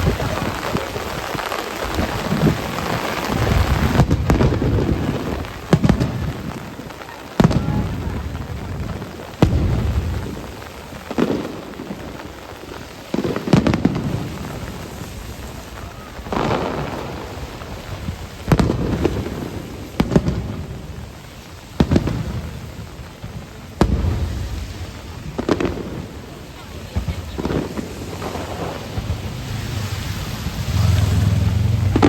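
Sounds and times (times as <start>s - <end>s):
fireworks booming: 0.0s - 32.0s
rain hissing: 0.0s - 32.0s.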